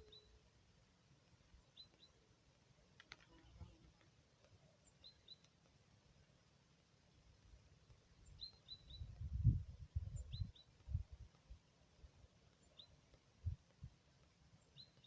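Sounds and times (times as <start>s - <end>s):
small birds chirping: 0.0s - 0.5s, 1.1s - 15.0s.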